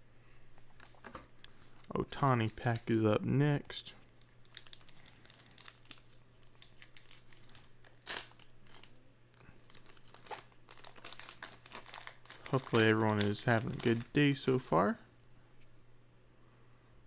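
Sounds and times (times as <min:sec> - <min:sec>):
plastic wrapper crinkling: 0:00.6 - 0:15.0.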